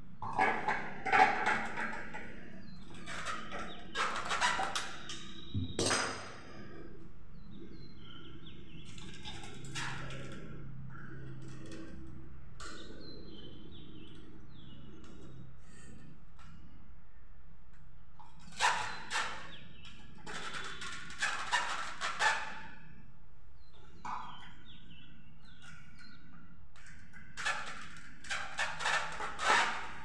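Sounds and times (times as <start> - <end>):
ceiling fan parts clicking and rattling: 0.0 - 30.0.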